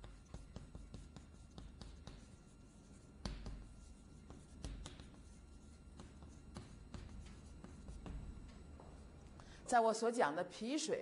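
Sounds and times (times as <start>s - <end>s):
chalk tapping on chalkboard: 0.0s - 9.0s.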